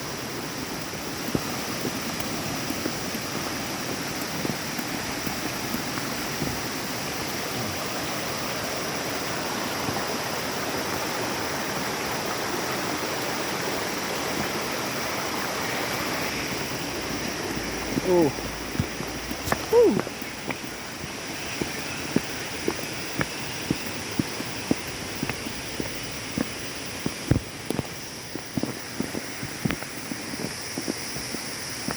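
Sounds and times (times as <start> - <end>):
water rushing in river: 0.0 - 31.9.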